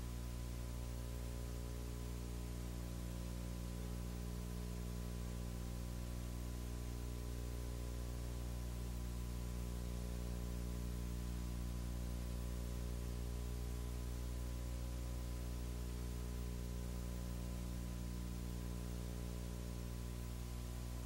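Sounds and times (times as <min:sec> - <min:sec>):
constant hiss: 0:00.0 - 0:21.0
mains hum: 0:00.0 - 0:21.0.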